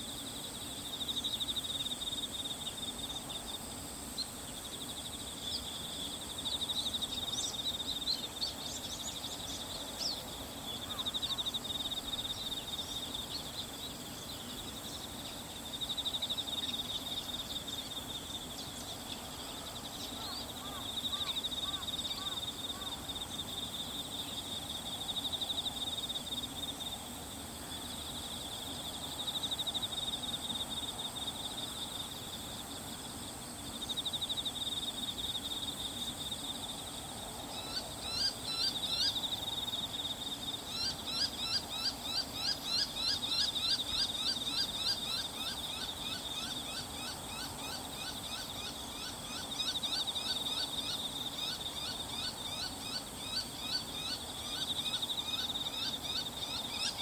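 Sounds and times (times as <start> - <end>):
high insect chorus: 0.0 - 57.0.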